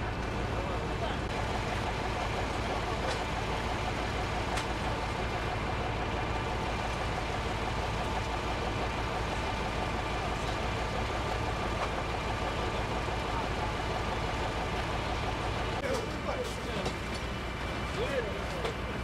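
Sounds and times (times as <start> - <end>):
heavy engine idling: 0.0 - 19.0.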